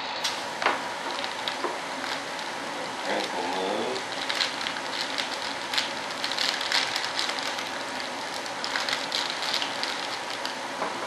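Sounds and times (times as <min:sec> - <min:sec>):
plastic film crinkling: 0:01.0 - 0:10.9.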